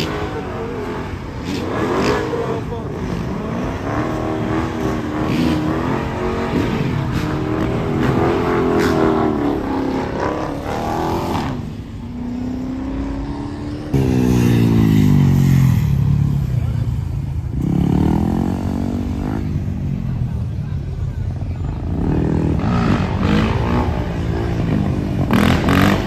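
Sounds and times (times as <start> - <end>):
car engines revving: 0.0 - 26.0
loud engine: 0.0 - 26.0.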